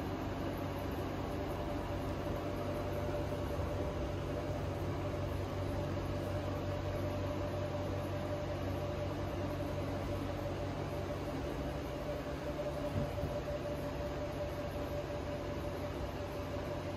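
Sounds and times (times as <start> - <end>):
constant whining tone: 0.0 - 16.9
mechanical hum and hiss: 0.0 - 16.9.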